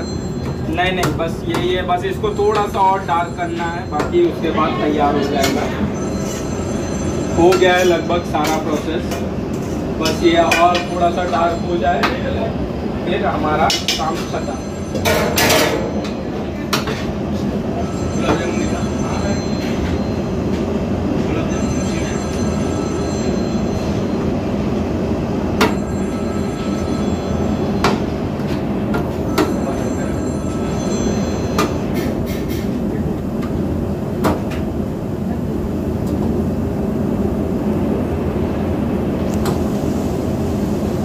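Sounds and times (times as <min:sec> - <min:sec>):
loud low background noise: 0:00.0 - 0:41.0.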